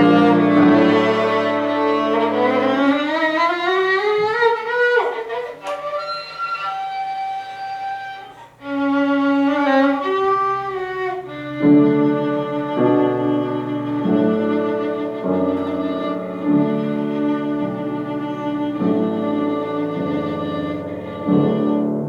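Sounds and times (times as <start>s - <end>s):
violin melody: 0.0s - 22.0s.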